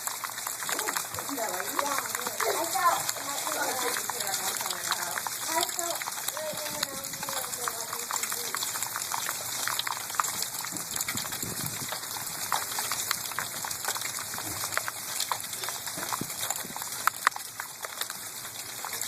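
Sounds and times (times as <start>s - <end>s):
hail falling: 0.0s - 19.0s.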